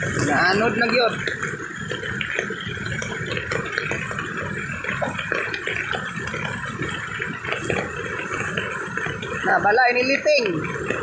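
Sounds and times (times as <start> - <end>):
small crackles: 0.0 - 9.4
floodwater rushing: 0.0 - 11.0.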